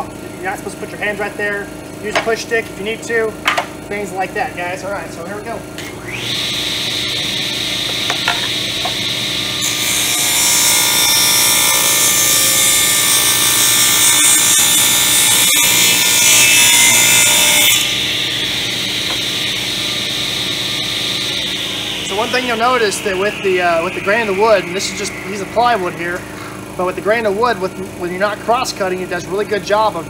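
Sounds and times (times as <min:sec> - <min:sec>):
table saw whining: 0:05.5 - 0:30.0.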